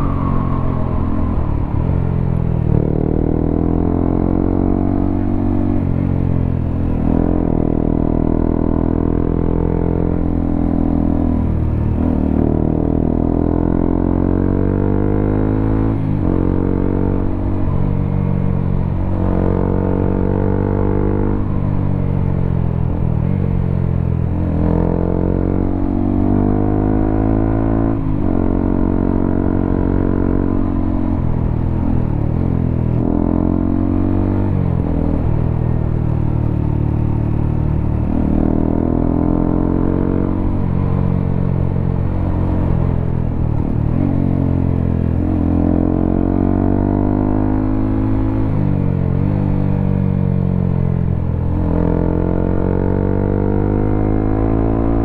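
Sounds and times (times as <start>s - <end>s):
motorcycle exhaust accelerating: 0.0s - 55.0s.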